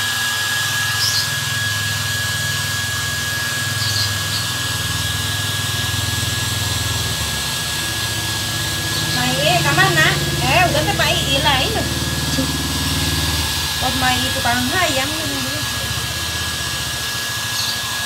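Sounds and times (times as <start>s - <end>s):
blow dryer running: 0.0s - 18.0s.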